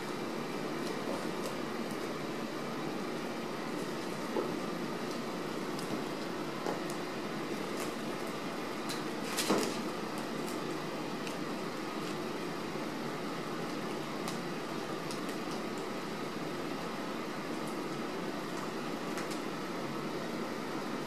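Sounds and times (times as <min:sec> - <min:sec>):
fan or air conditioner running: 0:00.0 - 0:21.0.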